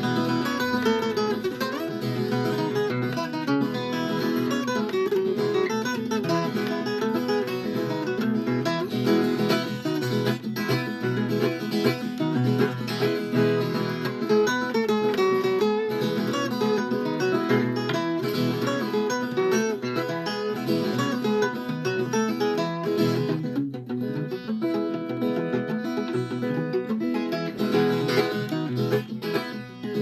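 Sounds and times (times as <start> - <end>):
plucked and strummed guitar: 0.0 - 30.0.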